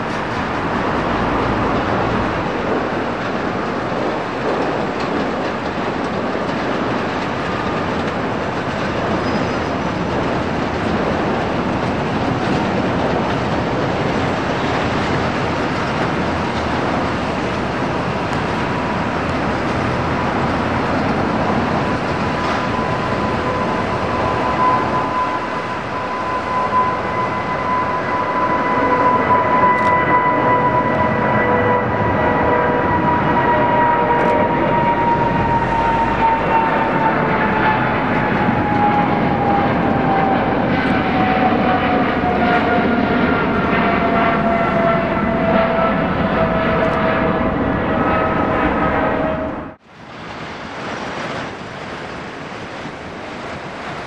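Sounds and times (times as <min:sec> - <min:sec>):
high fan whine: 0:00.0 - 0:54.0
jet engine roar: 0:00.0 - 0:54.0.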